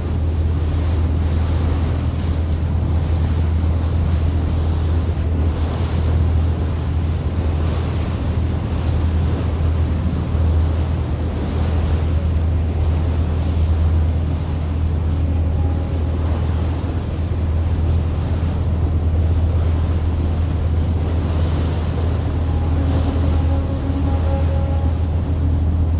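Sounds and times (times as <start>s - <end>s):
boat engine droning: 0.0s - 25.9s
water rushing past boat: 0.0s - 25.9s.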